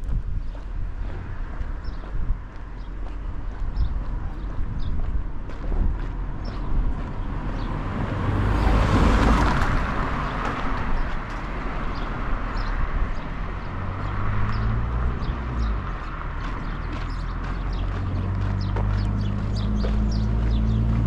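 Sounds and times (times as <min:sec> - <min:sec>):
low engine hum: 0:00.0 - 0:21.0
wind rumbling on microphone: 0:00.0 - 0:21.0
car passing: 0:00.6 - 0:21.0.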